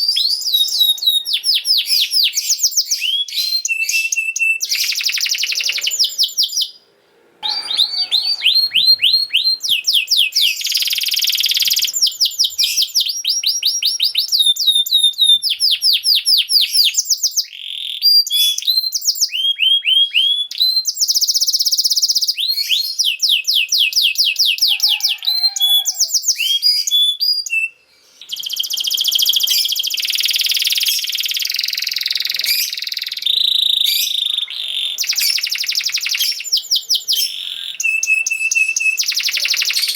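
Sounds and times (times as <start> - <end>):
canary singing trills: 0.0 - 6.8, 7.4 - 39.9.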